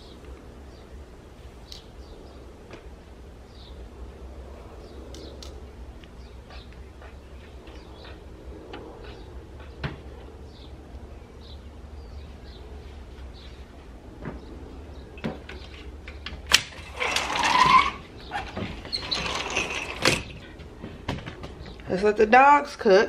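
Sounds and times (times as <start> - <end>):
birds chirping: 0.0 - 16.4, 18.0 - 22.6
low steady hum: 0.0 - 23.0.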